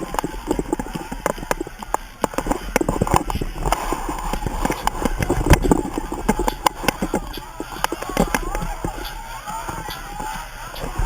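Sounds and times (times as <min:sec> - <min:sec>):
crowd voices: 0:00.0 - 0:11.0.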